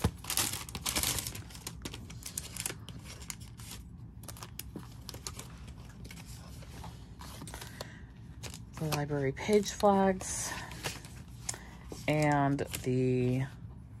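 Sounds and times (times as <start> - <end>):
paper rustling and crinkling: 0.0 - 13.4.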